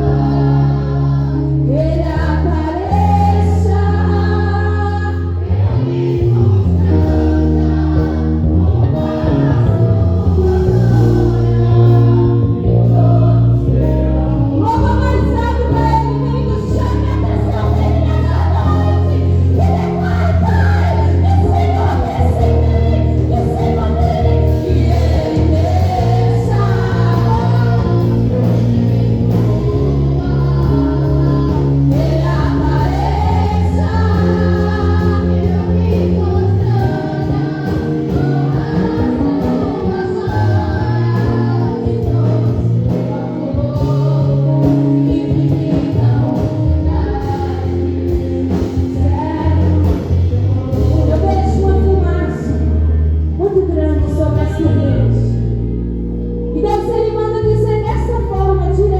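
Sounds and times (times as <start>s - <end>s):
voices singing: 0.0s - 52.8s
band playing: 0.0s - 53.4s.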